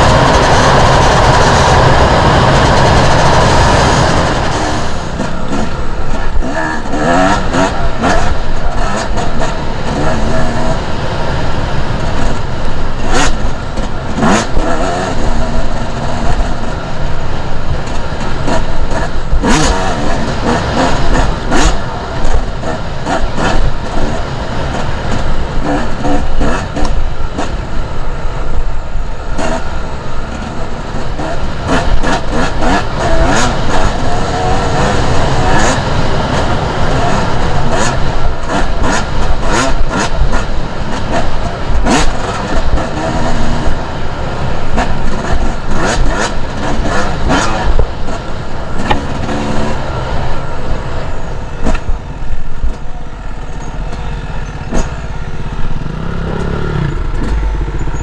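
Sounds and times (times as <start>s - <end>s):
dirt bike engine revving: 0.0s - 28.5s, 29.1s - 58.0s
low rumble of wind and terrain: 0.0s - 58.0s.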